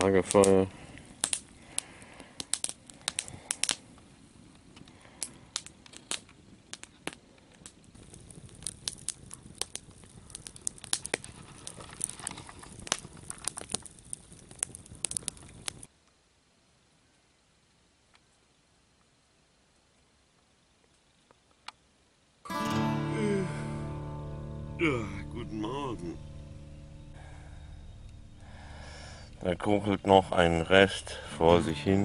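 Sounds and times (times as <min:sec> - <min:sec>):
campfire crackling and popping: 0:00.0 - 0:16.2, 0:20.8 - 0:32.0.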